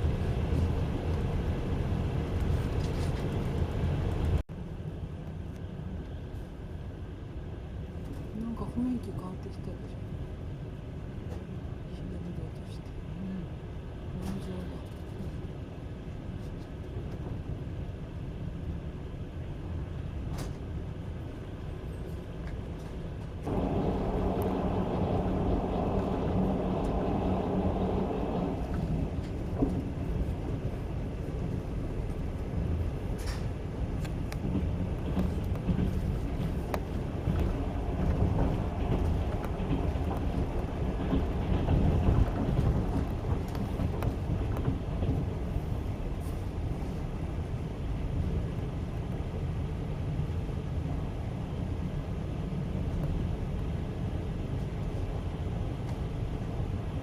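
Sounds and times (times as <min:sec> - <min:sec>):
train wheels rumbling on rail: 0:00.0 - 0:04.4, 0:05.4 - 0:57.0.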